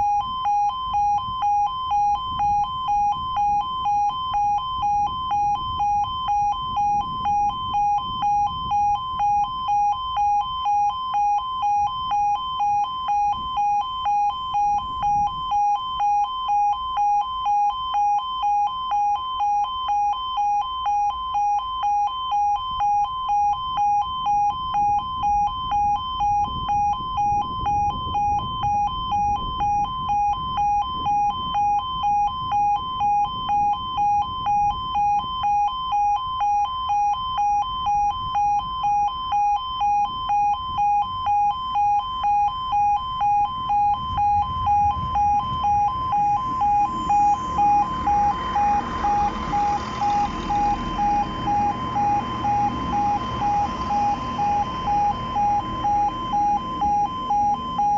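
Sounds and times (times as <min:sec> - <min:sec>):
two-tone electronic alarm beeping: 0:00.0 - 0:57.9.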